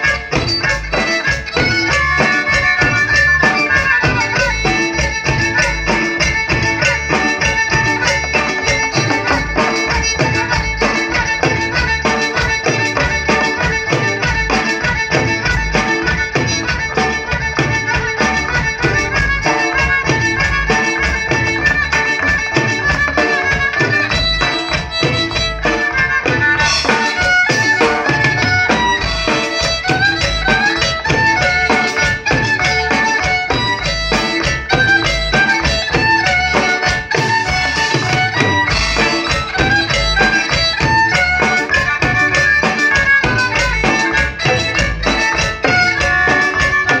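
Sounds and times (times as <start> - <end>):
bass: 0.0 - 47.0
drum kit: 0.0 - 47.0
guitar: 0.0 - 47.0
violin melody: 0.0 - 47.0.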